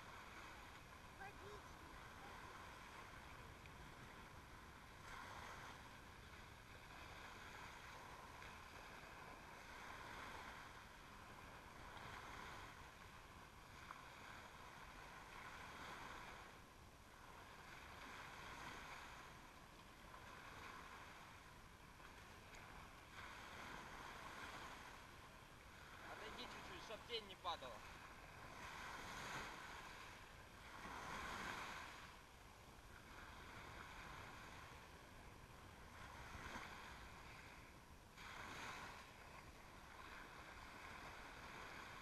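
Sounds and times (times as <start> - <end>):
small waves washing on sand: 0.0 - 42.0.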